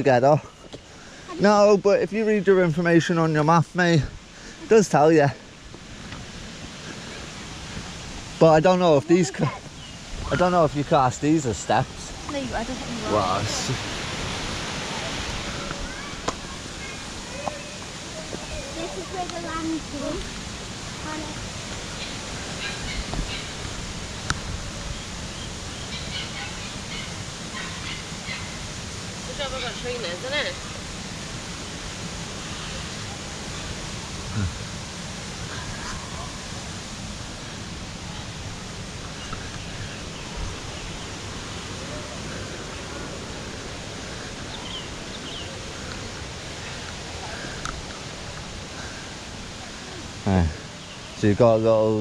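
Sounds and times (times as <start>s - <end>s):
falling water rushing: 0.0s - 52.0s.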